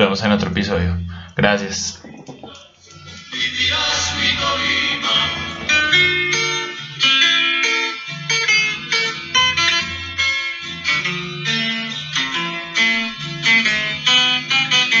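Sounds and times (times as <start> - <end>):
plucked guitars playing: 1.9 - 15.0.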